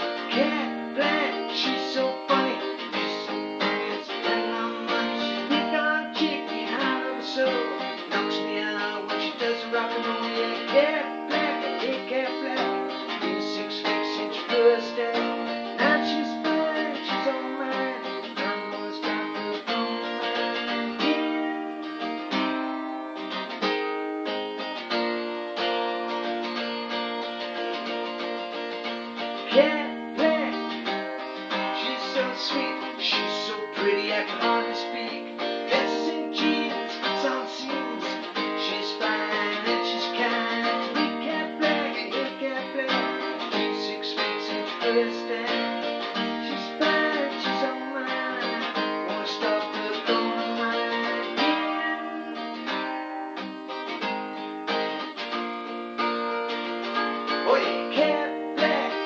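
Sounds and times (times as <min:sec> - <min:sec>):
guitar strumming chords: 0:00.0 - 0:59.0.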